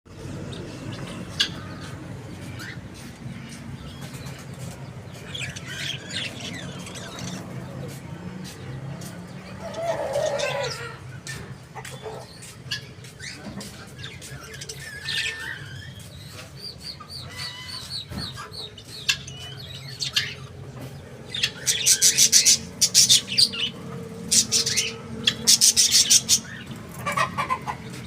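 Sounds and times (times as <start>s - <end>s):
budgerigars chirping: 0.5s - 8.6s, 9.4s - 28.0s.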